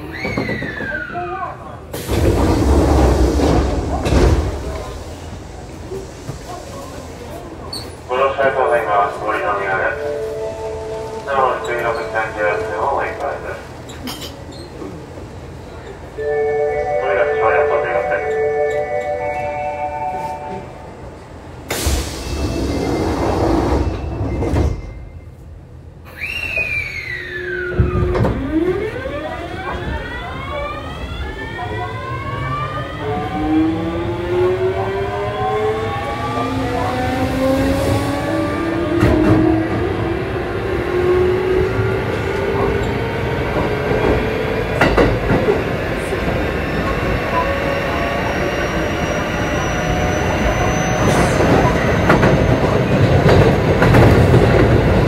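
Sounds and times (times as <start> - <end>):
wheel and rail rumble: 0.0 - 26.8, 27.4 - 55.0.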